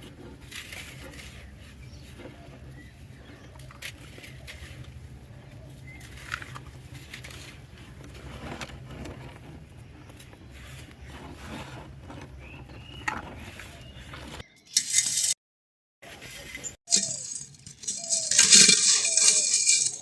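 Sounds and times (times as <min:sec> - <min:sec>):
sand crunching in a clay pot: 0:00.0 - 0:15.4, 0:16.0 - 0:20.0.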